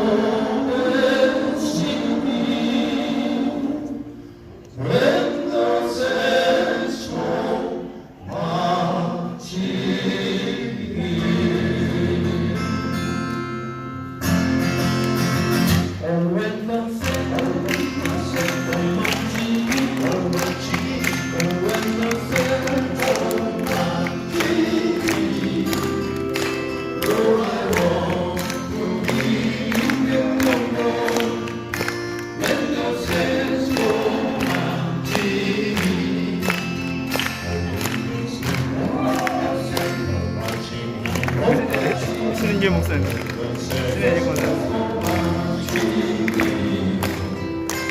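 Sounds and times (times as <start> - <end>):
male vocal quartet singing: 0.0 - 13.2, 15.8 - 47.7
acoustic guitars strumming: 0.0 - 47.9.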